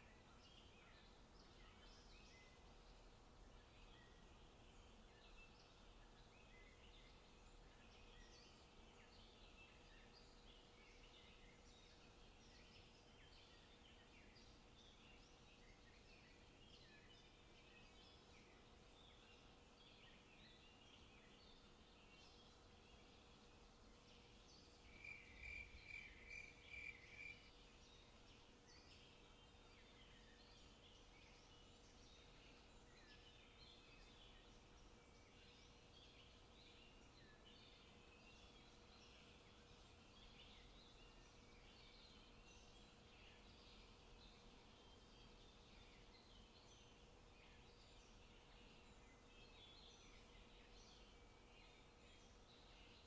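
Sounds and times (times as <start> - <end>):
faint songbirds chirping: 0.0 - 53.0.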